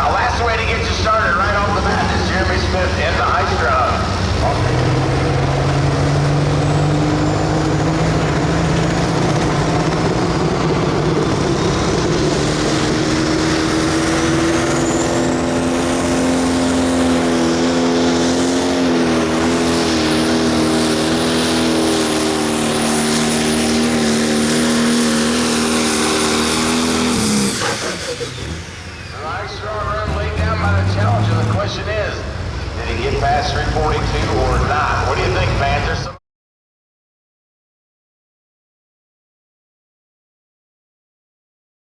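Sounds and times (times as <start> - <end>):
diesel engine at full throttle: 0.0 - 36.2.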